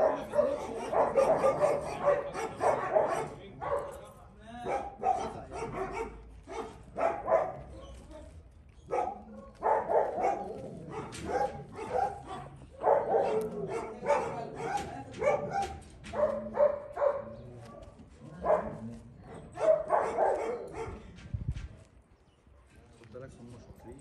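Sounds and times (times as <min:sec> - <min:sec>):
dogs barking: 0:00.0 - 0:04.0, 0:04.6 - 0:07.9, 0:08.9 - 0:21.0.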